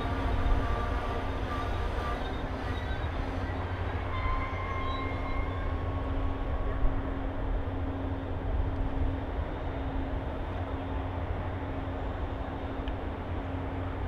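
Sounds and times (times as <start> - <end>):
passenger train rumble: 0.0 - 14.0.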